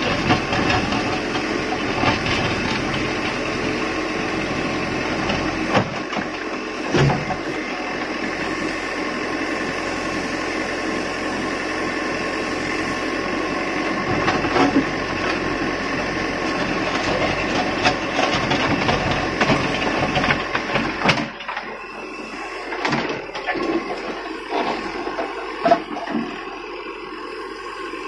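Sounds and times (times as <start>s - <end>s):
diesel engine and hydraulics whine: 0.0s - 28.0s.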